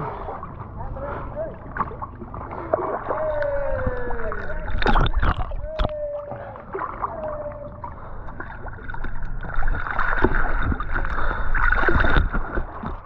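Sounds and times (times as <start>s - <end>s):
paddle splashes: 0.0s - 13.0s.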